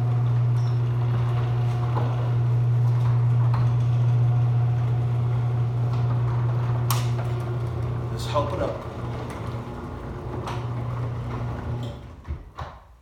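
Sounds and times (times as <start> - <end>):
garage door opener motor humming: 0.0 - 12.6.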